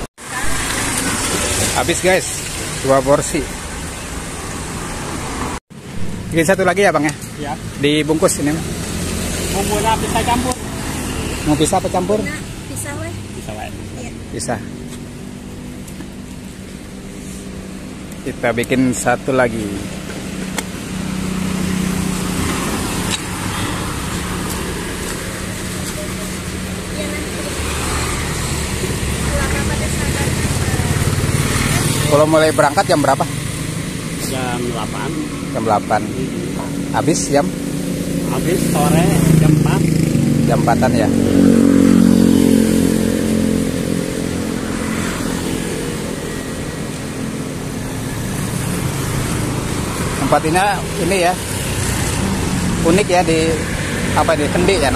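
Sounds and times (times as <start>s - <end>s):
road noise: 0.0s - 54.9s
street traffic noise: 0.0s - 54.9s
vehicle engine hum: 0.0s - 54.9s.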